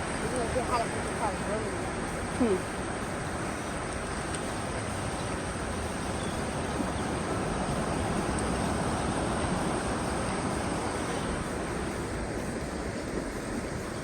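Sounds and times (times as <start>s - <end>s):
ocean surf: 0.0s - 14.0s
wind: 0.0s - 14.0s.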